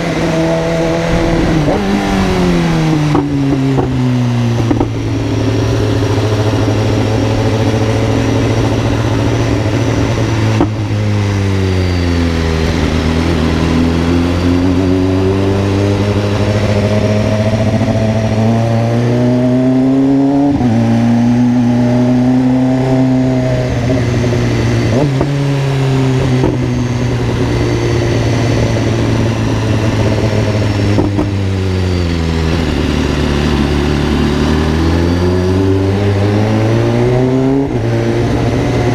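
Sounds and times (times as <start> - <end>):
car engine exhaust drone: 0.0 - 38.9.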